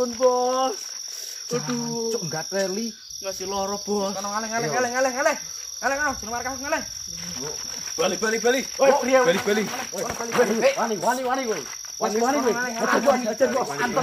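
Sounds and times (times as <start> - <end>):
crickets trilling: 0.0 - 14.0
men's wordless voices: 0.0 - 14.0.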